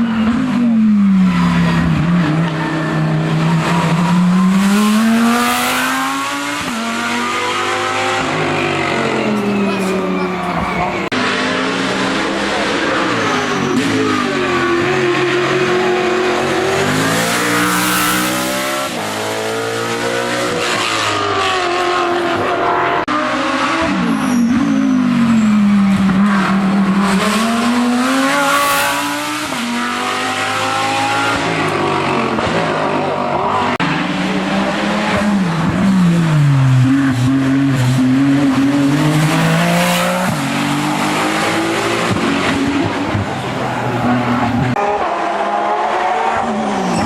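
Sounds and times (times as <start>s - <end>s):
racing car engine accelerating: 0.0s - 47.0s.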